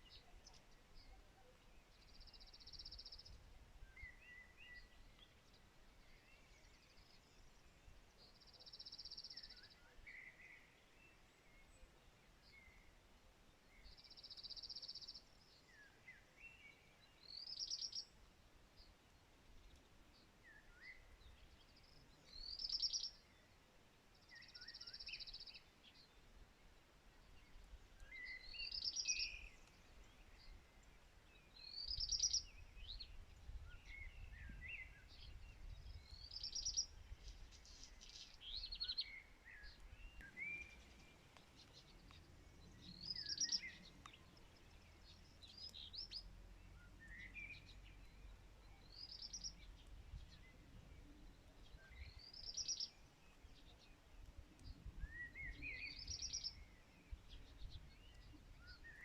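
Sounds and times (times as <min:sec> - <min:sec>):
soft bird chirps: 0:00.0 - 0:59.0.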